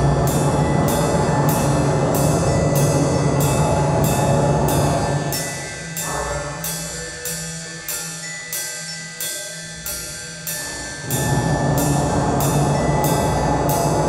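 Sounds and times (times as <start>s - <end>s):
held high notes: 0.0s - 14.0s
ringing metallic strikes: 0.0s - 14.0s.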